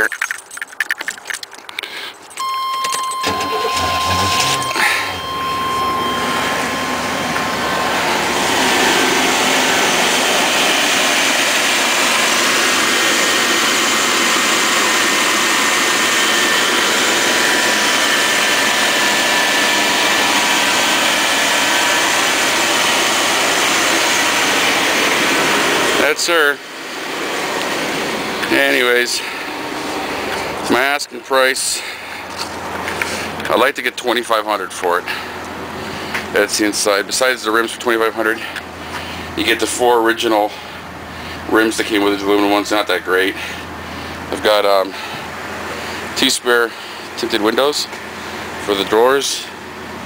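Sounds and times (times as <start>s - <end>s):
car engine starting and idling: 1.6s - 50.0s.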